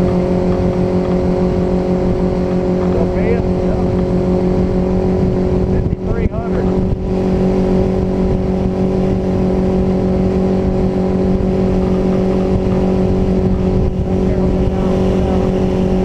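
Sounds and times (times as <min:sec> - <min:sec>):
outboard motor droning: 0:00.0 - 0:16.0
wind rumble on microphone: 0:00.0 - 0:16.0.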